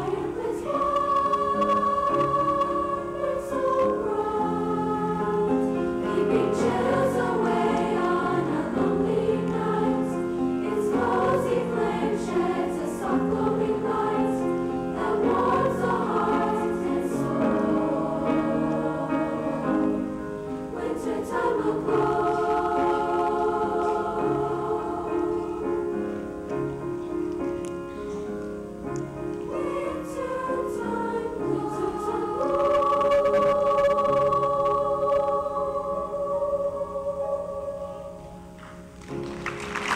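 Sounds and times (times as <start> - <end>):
choir singing in harmony: 0.0 - 27.0, 29.2 - 39.9.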